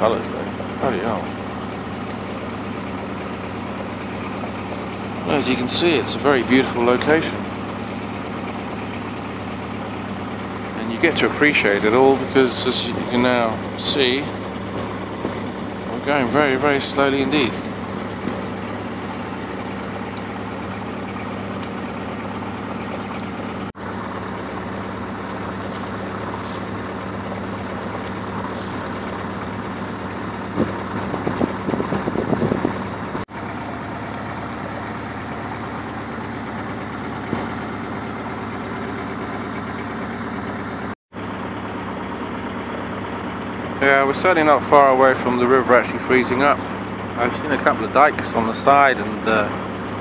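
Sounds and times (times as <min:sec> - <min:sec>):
boat engine droning: 0:00.0 - 0:50.0.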